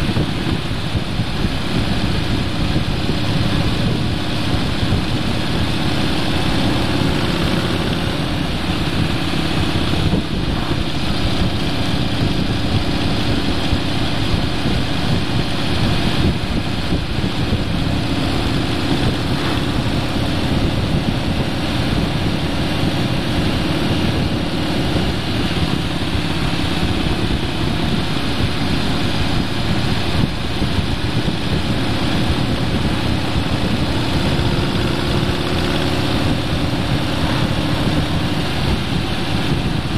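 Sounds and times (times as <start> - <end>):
road noise: 0.0 - 39.9
vehicle engine drone: 0.0 - 39.9
wind noise: 0.0 - 39.9.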